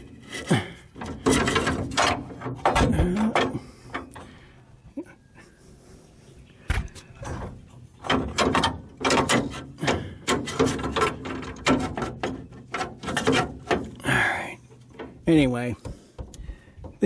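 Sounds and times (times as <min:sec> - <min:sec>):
metal hinge parts clicking and knocking: 0:00.0 - 0:04.5, 0:06.7 - 0:17.0.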